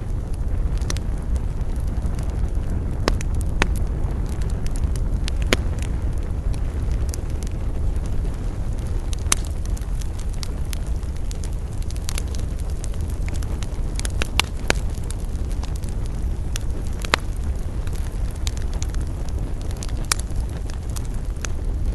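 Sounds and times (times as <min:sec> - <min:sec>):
campfire flames roaring: 0:00.0 - 0:21.9
wood crackling and popping: 0:00.0 - 0:21.9.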